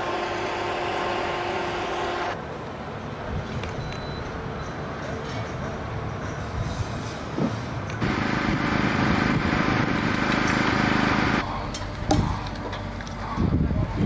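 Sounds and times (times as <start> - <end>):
machinery engine drone: 0.0 - 14.0.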